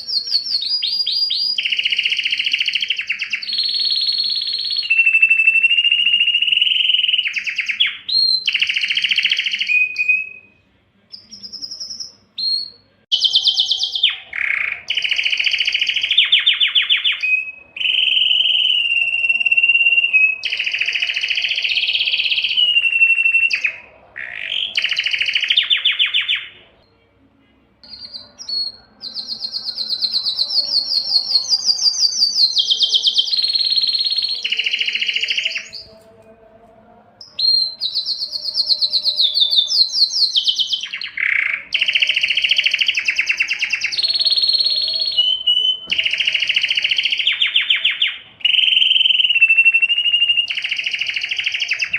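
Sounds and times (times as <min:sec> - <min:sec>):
canary singing trills: 0:00.0 - 0:27.0, 0:27.8 - 0:36.4, 0:37.2 - 0:51.9.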